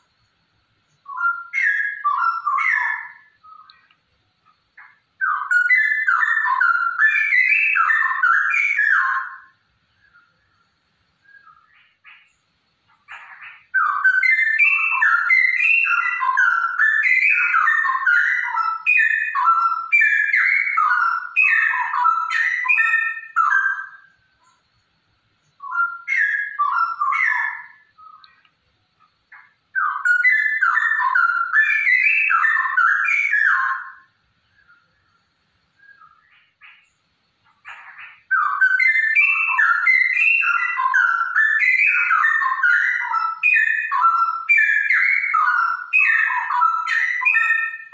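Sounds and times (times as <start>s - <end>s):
bird singing whistled phrases: 0.9s - 3.9s, 4.8s - 10.6s, 11.2s - 12.4s, 13.1s - 24.6s, 25.4s - 28.5s, 29.3s - 36.9s, 37.6s - 47.9s.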